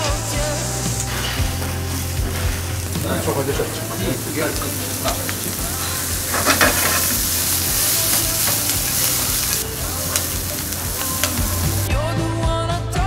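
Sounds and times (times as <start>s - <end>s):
onions sizzling in a frying pan: 0.0s - 11.9s.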